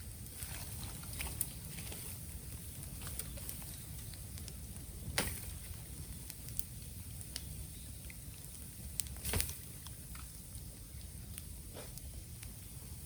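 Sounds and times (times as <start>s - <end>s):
sharp pops of burning bamboo: 0.0s - 12.8s
bonfire crackling: 0.0s - 13.0s.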